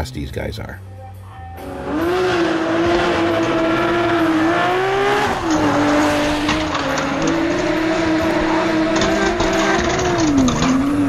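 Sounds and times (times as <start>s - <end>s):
race car engine at high revs: 1.6s - 11.0s.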